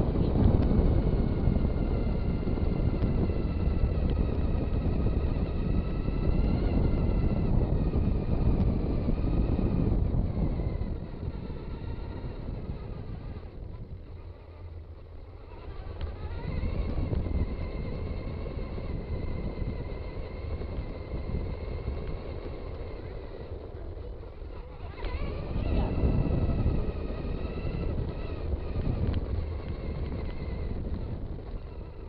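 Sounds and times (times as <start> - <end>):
electric motor whine: 0.0 - 32.0
tyre and wind rumble: 0.0 - 32.0.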